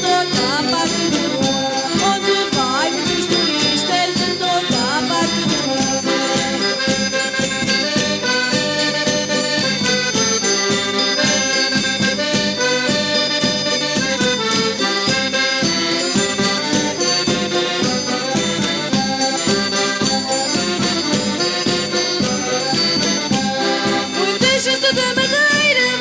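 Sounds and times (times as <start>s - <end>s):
folk dance tune: 0.0s - 26.0s
steady percussion beat: 0.0s - 26.0s.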